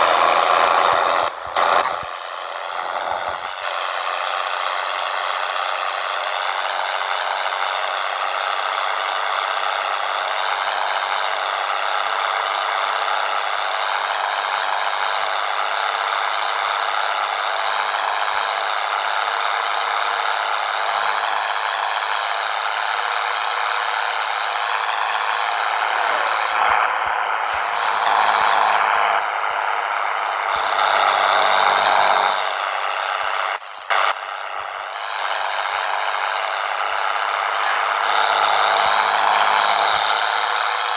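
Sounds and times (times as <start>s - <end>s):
truck diesel engine running: 0.0s - 40.9s.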